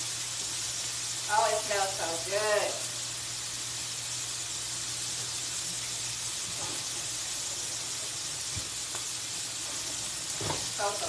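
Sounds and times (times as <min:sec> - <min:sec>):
chicken sizzling in skillet: 0:00.0 - 0:11.0.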